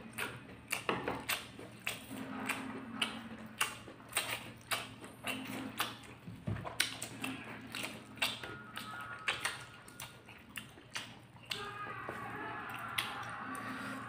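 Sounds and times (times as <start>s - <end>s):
chewing with wet mouth clicks: 0.0s - 11.7s.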